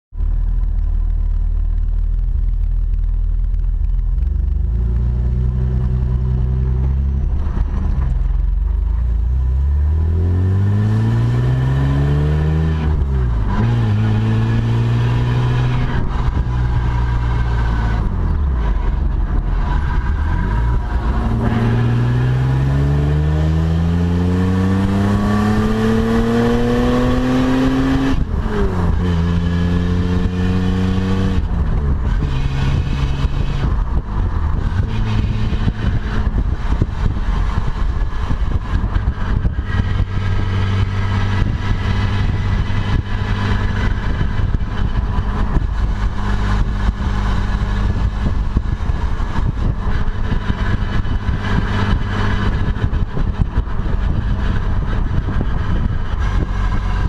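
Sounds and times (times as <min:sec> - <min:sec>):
car engine revving: 0:00.2 - 0:57.0.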